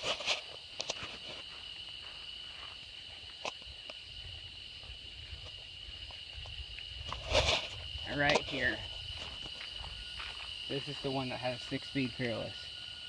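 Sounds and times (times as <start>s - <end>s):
soft footsteps: 0.0s - 10.8s
high-pitched insect drone: 0.0s - 13.0s.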